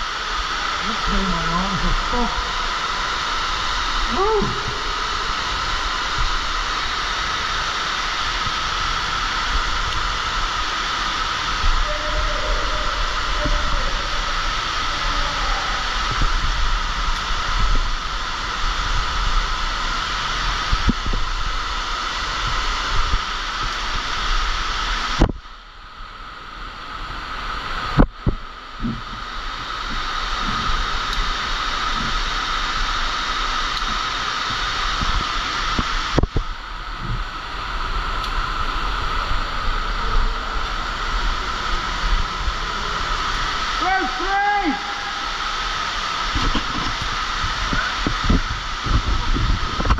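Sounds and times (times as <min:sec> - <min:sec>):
underground waterfall rushing: 0:00.0 - 0:49.9.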